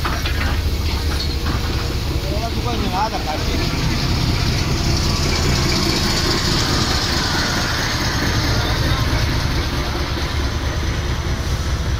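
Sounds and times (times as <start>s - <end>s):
diesel locomotive engine rumbling: 0.0s - 11.9s.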